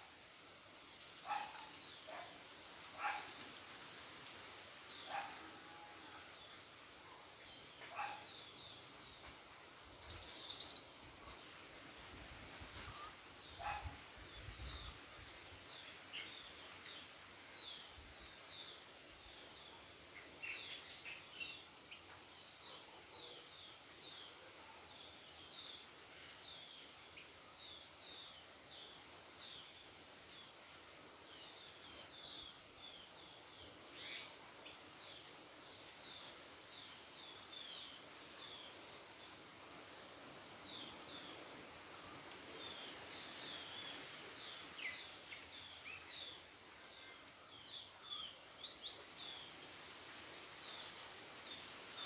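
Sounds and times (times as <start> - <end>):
low background noise: 0.0 - 52.0.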